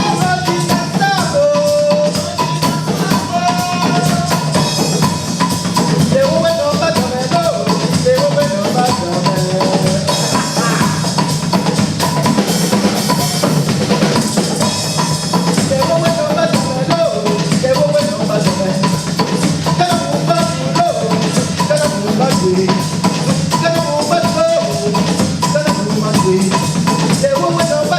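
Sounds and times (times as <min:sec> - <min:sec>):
music with drum beat: 0:00.0 - 0:27.9.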